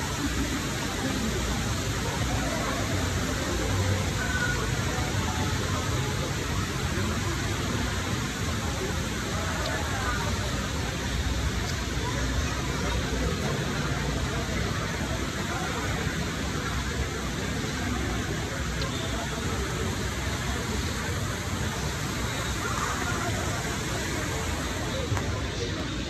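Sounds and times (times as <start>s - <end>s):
faint crowd voices: 0.0s - 26.0s
indoor hall background noise: 0.0s - 26.0s.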